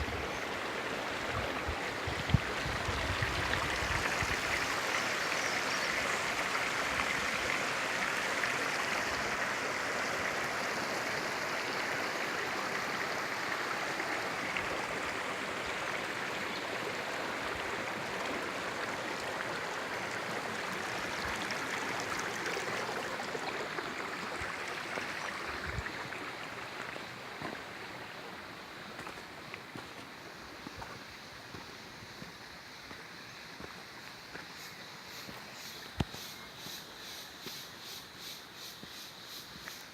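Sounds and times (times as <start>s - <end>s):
rushing water: 0.0s - 34.4s.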